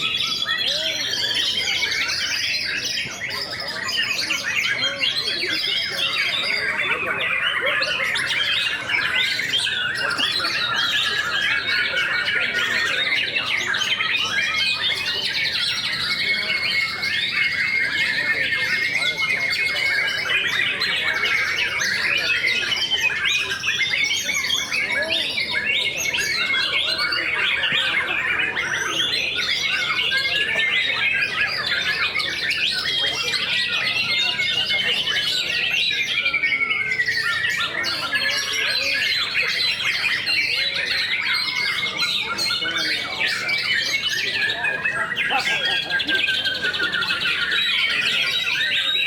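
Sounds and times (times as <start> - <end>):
chorus of songbirds singing: 0.0 - 49.0.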